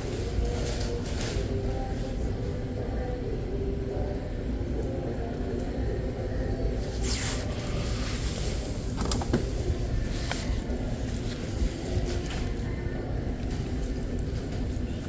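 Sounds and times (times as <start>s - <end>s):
store background rumble: 0.0s - 15.0s.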